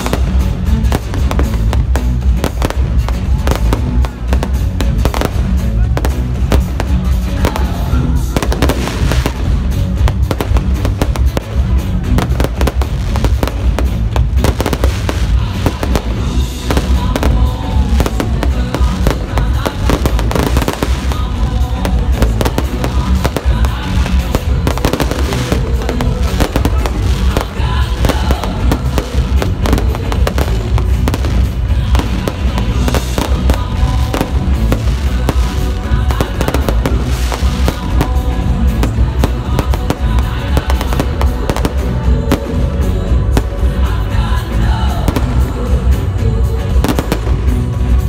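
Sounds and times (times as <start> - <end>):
fireworks bangs and crackling: 0.0 - 48.0
music playing: 0.0 - 48.0.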